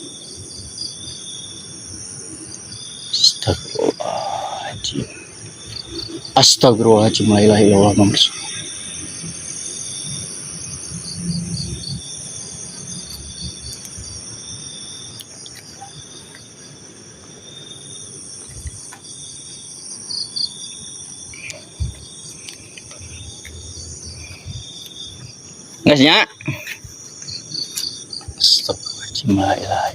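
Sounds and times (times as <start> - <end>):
fast pulsing chirp: 0.0 - 16.6, 17.6 - 29.9
continuous high cricket trill: 0.0 - 29.9
lower insect chirp: 0.0 - 29.9.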